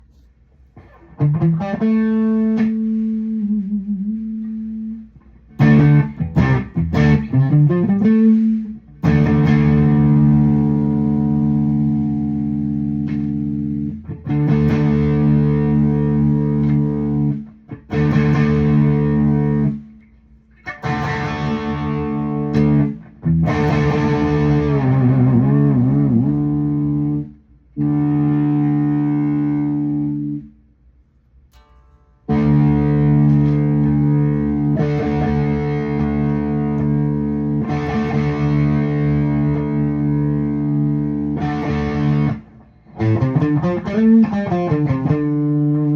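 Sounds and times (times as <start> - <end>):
electric guitar chords ringing: 0.8 - 20.0, 20.7 - 30.5, 31.5 - 45.9.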